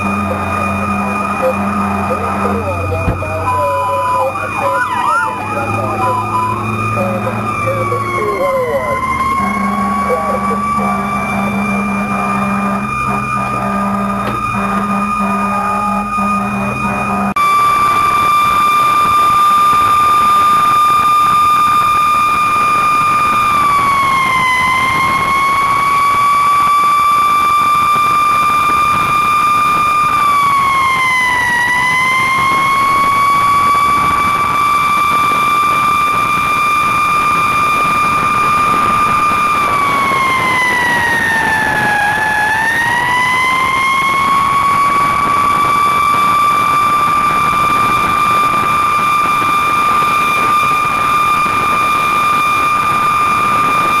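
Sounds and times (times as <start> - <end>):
fire engine siren: 0.0 - 54.0.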